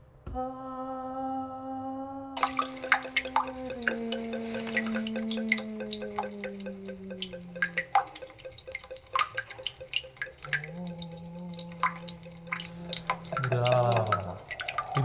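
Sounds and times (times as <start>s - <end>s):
low held tone: 2.4s - 15.0s
water dripping from tap: 2.4s - 15.0s.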